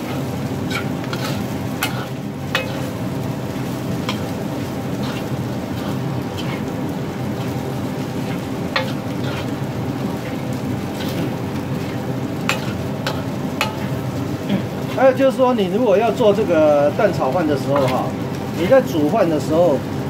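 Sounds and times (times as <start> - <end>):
spatula scraping a wok: 0.0 - 15.2, 16.0 - 18.9
rice sizzling in a wok: 0.0 - 20.0.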